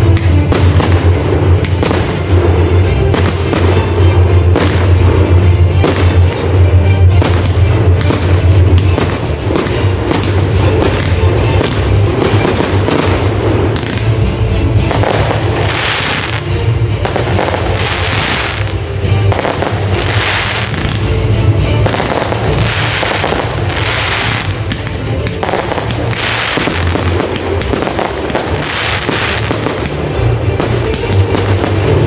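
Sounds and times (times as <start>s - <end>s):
fireworks bursting: 0.0s - 32.0s
music with bass line: 0.0s - 32.0s.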